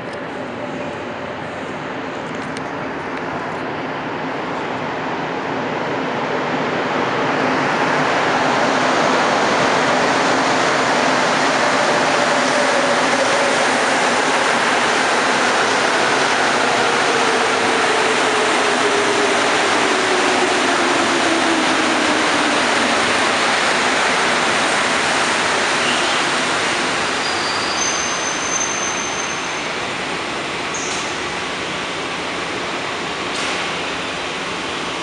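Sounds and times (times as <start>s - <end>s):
train running noise with whine: 0.0s - 35.0s.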